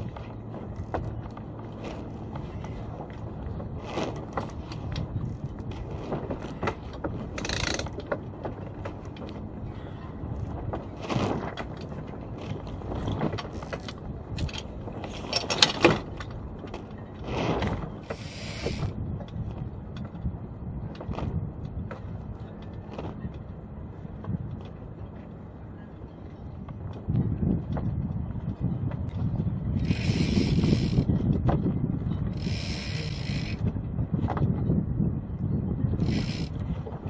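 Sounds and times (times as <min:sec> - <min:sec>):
rumble of wind and water: 0:00.0 - 0:37.0.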